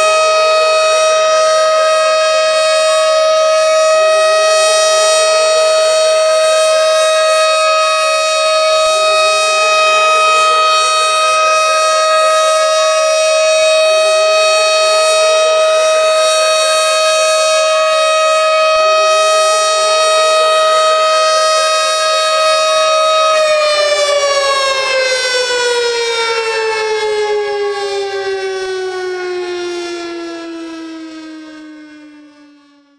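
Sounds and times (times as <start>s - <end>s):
tornado siren wailing: 0.0s - 32.9s.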